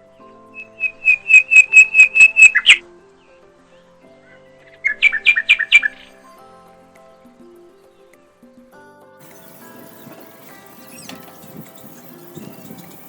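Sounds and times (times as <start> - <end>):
soft background music: 0.0 - 13.0
songbird chirping: 0.0 - 13.0.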